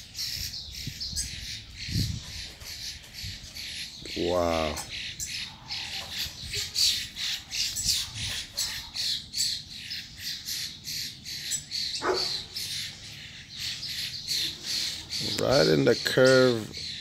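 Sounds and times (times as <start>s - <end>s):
birds squawking: 0.0s - 17.0s.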